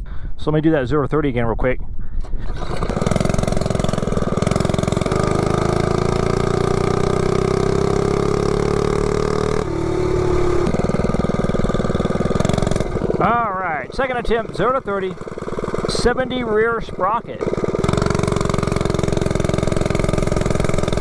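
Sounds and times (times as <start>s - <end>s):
small motorbike engine accelerating: 2.4s - 21.0s.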